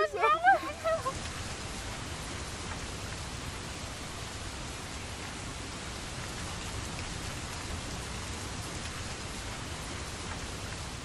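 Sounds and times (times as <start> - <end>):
rain falling on grass: 0.0 - 11.0.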